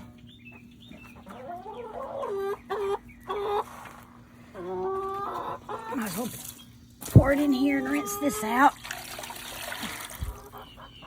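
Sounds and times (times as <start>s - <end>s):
chickens squawking: 0.0s - 11.0s.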